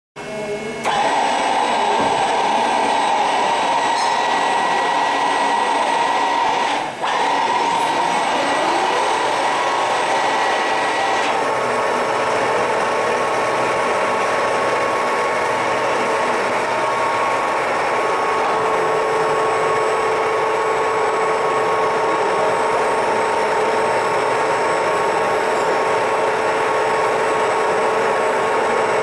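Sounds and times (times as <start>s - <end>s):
machine humming and hissing: 0.2s - 29.0s
machine whining tones: 0.2s - 29.0s.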